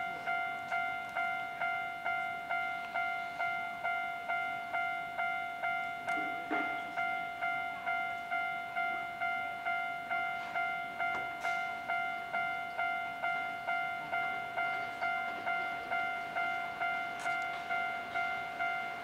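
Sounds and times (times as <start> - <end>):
level crossing warning bell ringing: 0.0 - 19.0.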